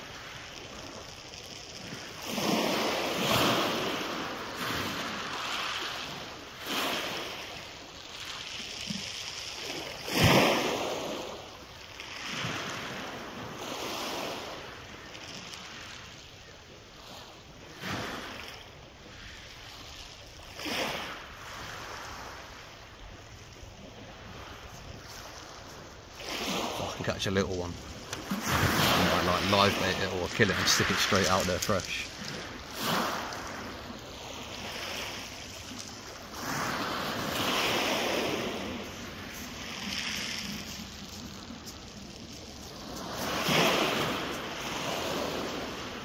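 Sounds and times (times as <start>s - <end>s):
waves washing onto pebble beach: 0.0s - 46.0s.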